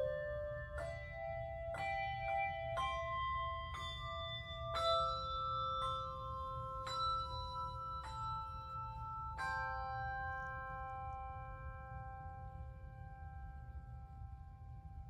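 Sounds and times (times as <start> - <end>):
handbells playing slow melody: 0.0 - 15.0.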